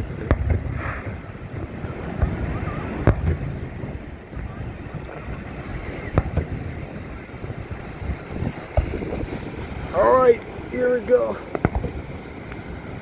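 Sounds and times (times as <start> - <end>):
fireworks banging: 0.0 - 13.0
wind on microphone: 0.0 - 13.0.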